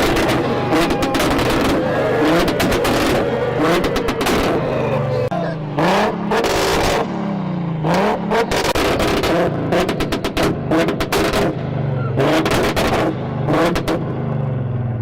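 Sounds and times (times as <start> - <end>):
car engine revving hard: 0.0 - 14.3
exhaust popping and crackling: 0.0 - 14.6.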